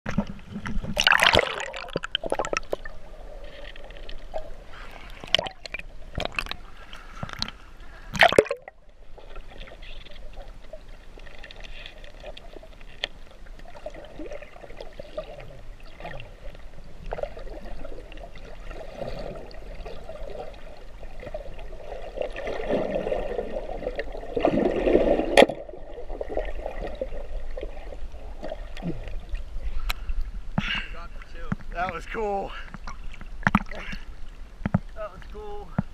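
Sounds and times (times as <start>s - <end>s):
water sloshing and splashing: 0.1s - 35.9s.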